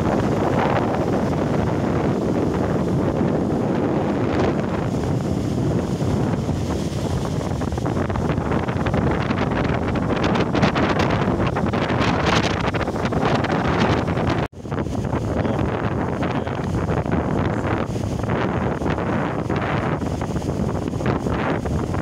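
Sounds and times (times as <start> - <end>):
storm wind buffeting microphone: 0.0 - 22.0
surf breaking on sand: 0.0 - 22.0.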